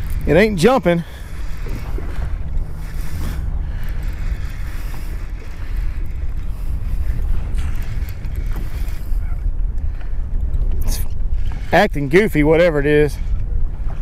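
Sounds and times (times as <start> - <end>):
water noise: 0.0 - 14.0
wind rumble buffeting microphone: 0.0 - 14.0.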